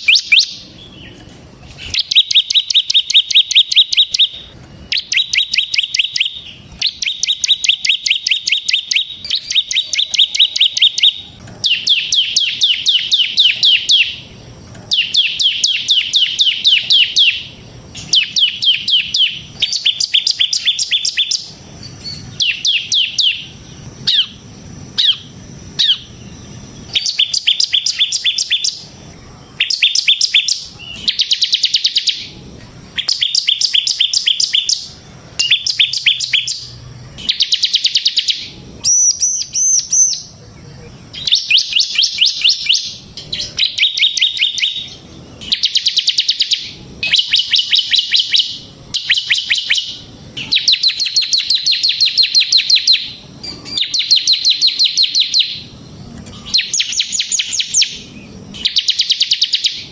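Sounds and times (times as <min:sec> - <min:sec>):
bird singing trilled phrases: 0:00.0 - 0:59.9.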